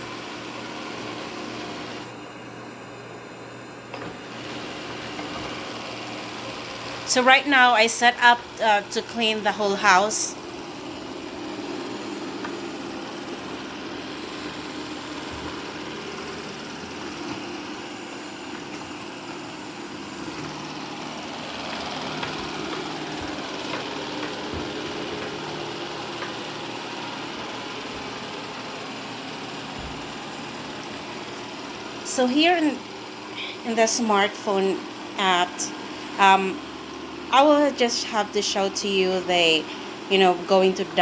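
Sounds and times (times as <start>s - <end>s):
robot vacuum running: 0.0s - 41.0s.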